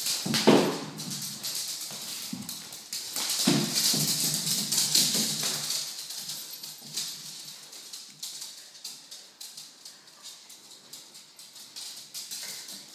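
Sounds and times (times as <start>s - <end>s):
dog claws clicking on laminate floor: 0.0s - 12.9s.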